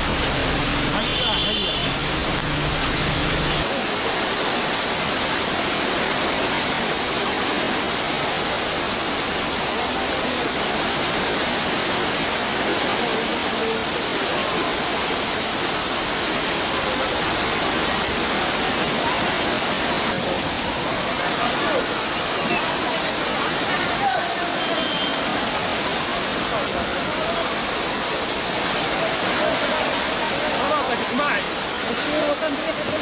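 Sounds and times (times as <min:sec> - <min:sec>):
floodwater rushing: 0:00.0 - 0:33.0.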